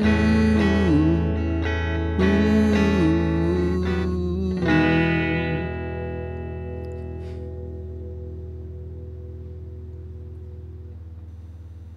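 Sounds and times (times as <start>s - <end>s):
rock music with guitar: 0.0s - 11.3s
guitar chord ringing out: 0.0s - 11.9s.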